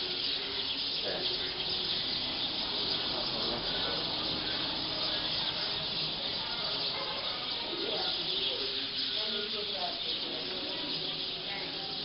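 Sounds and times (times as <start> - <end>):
flock of birds calling din: 0.0 - 12.0.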